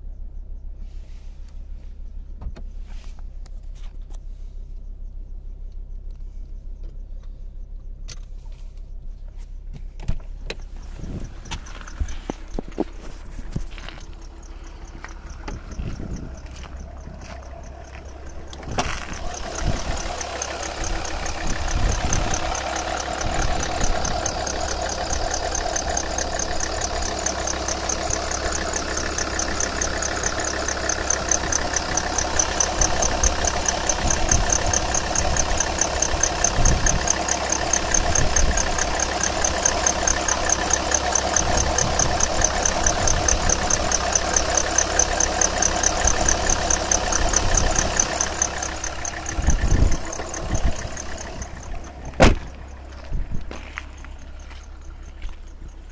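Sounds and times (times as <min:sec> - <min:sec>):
diesel engine running: 0:09.0 - 0:55.9.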